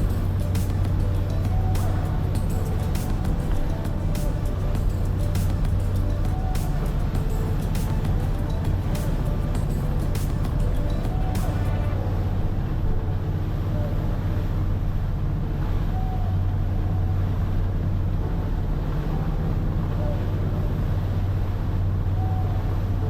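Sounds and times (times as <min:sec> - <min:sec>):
boat engine droning: 0:00.0 - 0:23.0
rushing wind: 0:00.0 - 0:23.0
water noise: 0:00.0 - 0:23.0.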